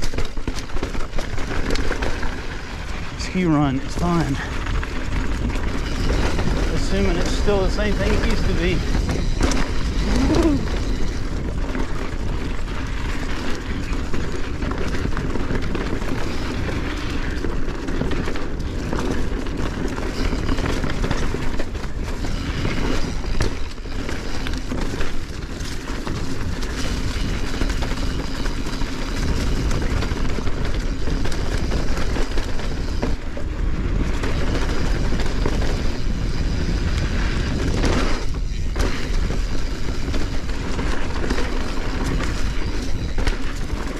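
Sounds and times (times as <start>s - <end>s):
mountain bike rattling: 0.0s - 43.9s
tyre noise on dirt: 0.0s - 43.9s.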